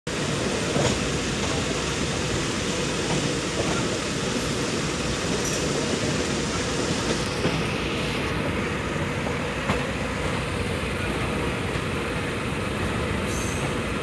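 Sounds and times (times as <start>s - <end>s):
train running on rails: 0.1s - 14.0s.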